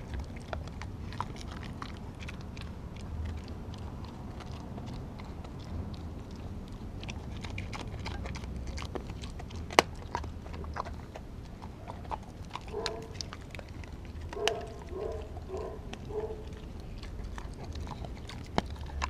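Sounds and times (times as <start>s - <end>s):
dog licking and chewing: 0.0s - 19.0s.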